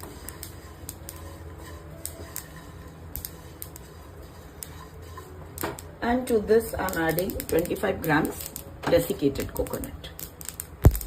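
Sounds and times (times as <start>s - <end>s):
seeds popping and crackling in pan: 0.0s - 11.0s.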